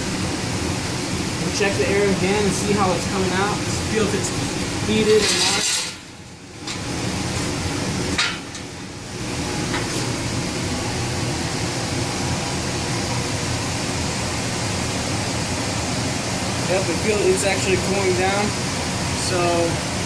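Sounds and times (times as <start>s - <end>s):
furnace blower air rush: 0.0s - 20.0s.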